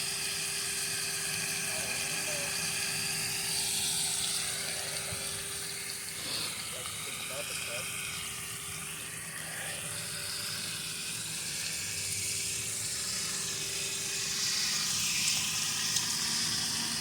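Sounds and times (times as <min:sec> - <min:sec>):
faint steady hum: 0:00.0 - 0:17.0
water pot sizzling hiss: 0:00.0 - 0:17.0.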